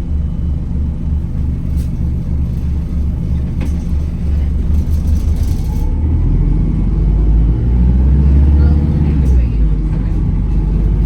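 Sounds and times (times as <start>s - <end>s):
bus driveline drone: 0.0s - 11.0s.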